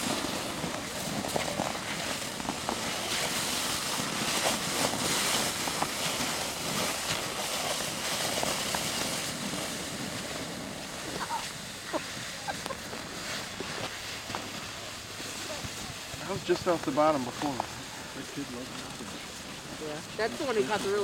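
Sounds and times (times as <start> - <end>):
sled scraping over snow: 0.0 - 21.0.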